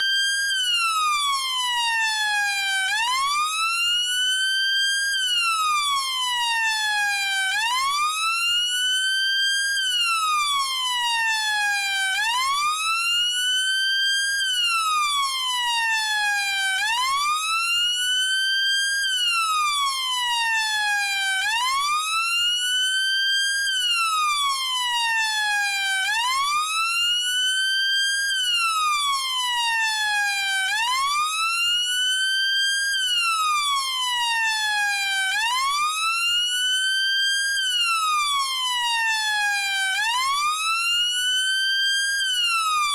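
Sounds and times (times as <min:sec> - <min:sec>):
police car siren wailing: 0:00.8 - 0:03.8, 0:05.4 - 0:08.5, 0:10.0 - 0:13.1, 0:14.7 - 0:22.5, 0:23.9 - 0:31.9, 0:32.6 - 0:42.9.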